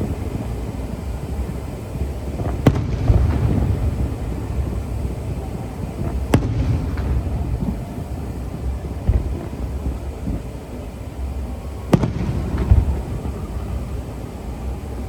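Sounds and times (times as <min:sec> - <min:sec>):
fireworks cracks: 0:00.0 - 0:15.0.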